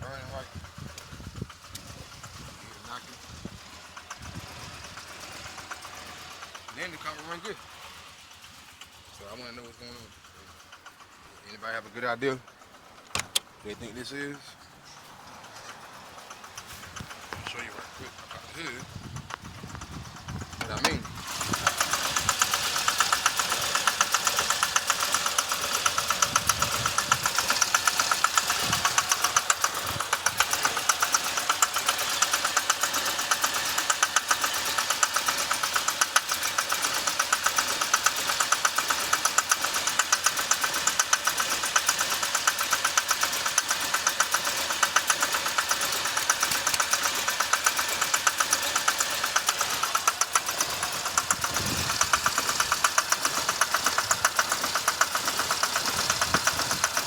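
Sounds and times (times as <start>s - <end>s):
car engine idling roughly: 0.0s - 57.0s
fast steady ticking: 0.4s - 57.0s.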